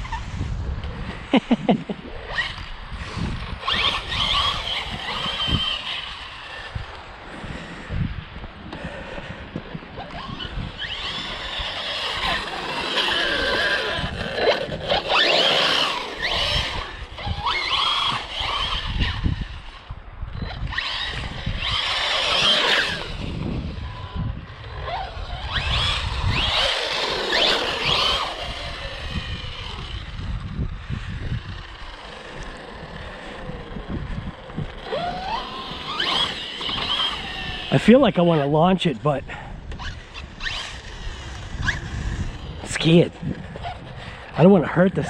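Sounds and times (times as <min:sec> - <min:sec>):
electric motor whining: 0:00.0 - 0:45.0.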